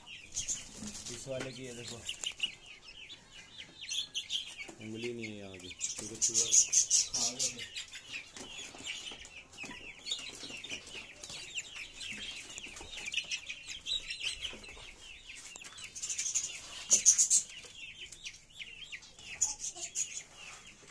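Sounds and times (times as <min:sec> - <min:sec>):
chicks peeping: 0:00.0 - 0:20.9.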